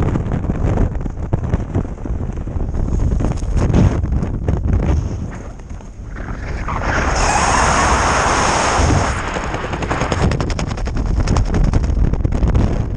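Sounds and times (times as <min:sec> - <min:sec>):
wind rushing over microphone: 0:00.0 - 0:12.9
parachute fabric flapping: 0:01.0 - 0:12.9.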